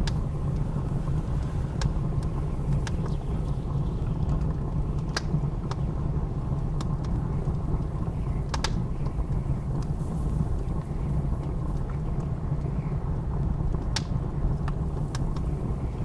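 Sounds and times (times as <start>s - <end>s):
blizzard wind rumble: 0.0s - 16.0s
wood fire crackling: 0.0s - 16.0s.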